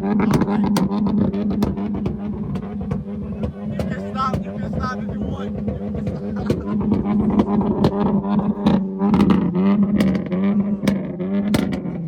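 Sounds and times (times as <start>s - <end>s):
car engines revving: 0.0s - 12.0s
exhaust pops and crackles: 0.0s - 12.0s.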